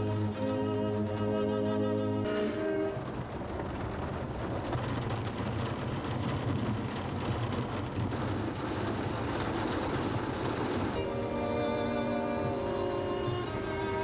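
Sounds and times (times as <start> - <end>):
heavy rain pouring: 0.0 - 14.0
low traffic rumble: 0.0 - 14.0.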